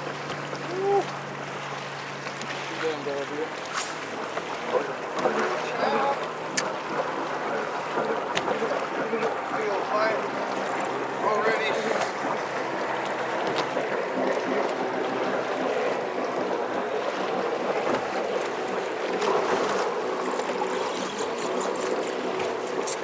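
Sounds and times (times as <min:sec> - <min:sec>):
water washing around boat: 0:00.0 - 0:23.0
wind: 0:00.0 - 0:23.0.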